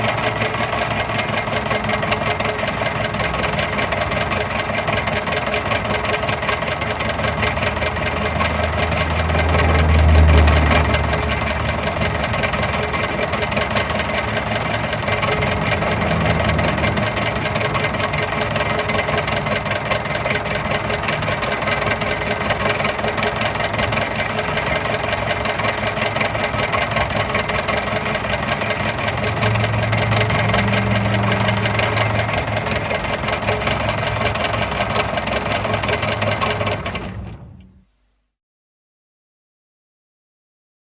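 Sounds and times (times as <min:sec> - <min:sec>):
car engine idling: 0:00.0 - 0:38.1.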